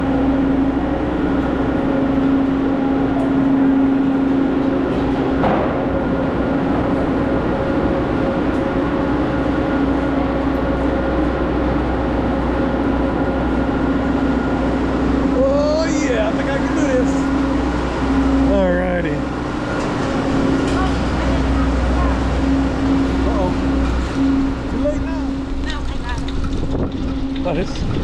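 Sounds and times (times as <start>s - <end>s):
chairlift mechanical hum: 0.0s - 28.0s.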